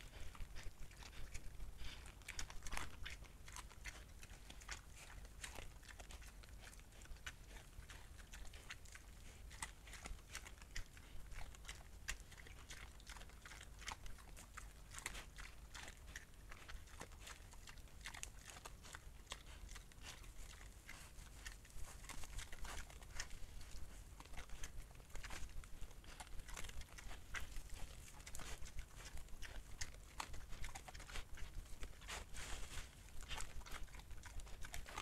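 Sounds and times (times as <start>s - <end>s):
wild boars crunching food: 0.0s - 35.0s.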